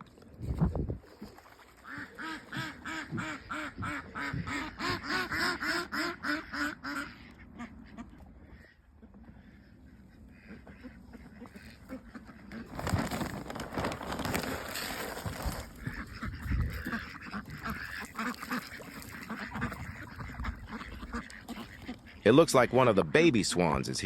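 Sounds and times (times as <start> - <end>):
ducks quacking: 1.8 - 13.3, 15.2 - 24.0.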